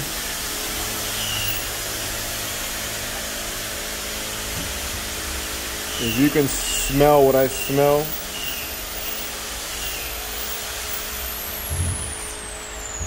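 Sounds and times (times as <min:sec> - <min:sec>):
electric motor machine whirring: 0:00.0 - 0:13.0.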